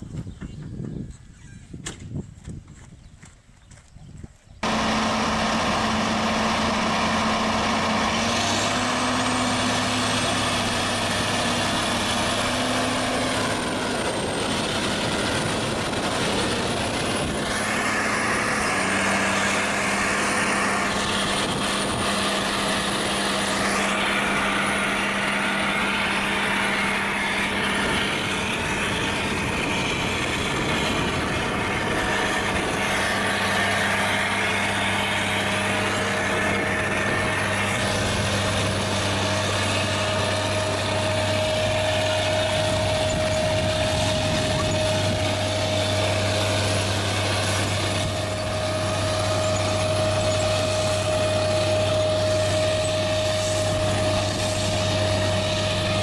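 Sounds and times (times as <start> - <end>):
tractor diesel engine running: 4.6 - 56.0.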